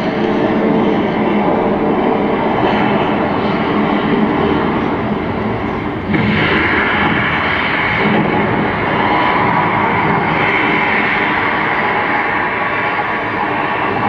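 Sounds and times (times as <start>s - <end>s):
volcano eruption roar: 0.0s - 14.0s.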